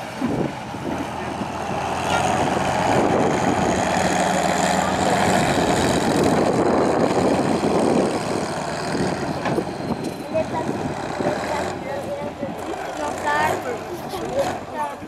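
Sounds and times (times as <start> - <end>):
diesel truck engine at full throttle: 0.0 - 15.0.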